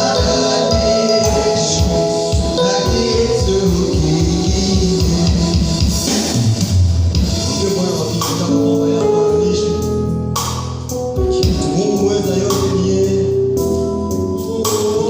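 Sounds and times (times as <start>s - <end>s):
held bass notes: 0.0s - 15.0s
worship band with steady beat: 0.0s - 15.0s.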